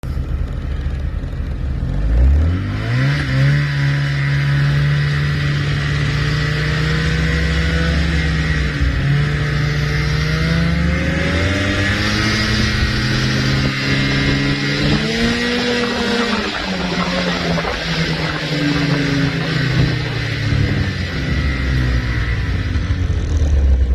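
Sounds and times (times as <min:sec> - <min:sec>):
snowmobile engine accelerating: 0:00.1 - 0:23.9.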